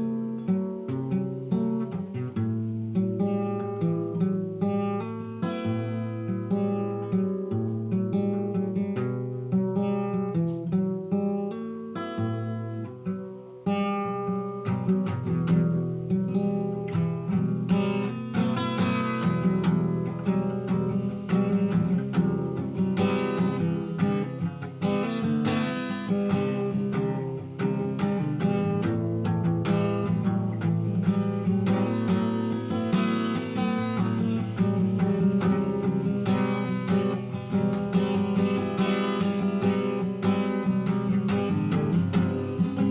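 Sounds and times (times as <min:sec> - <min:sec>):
acoustic guitar picked and strummed: 0:00.0 - 0:42.9.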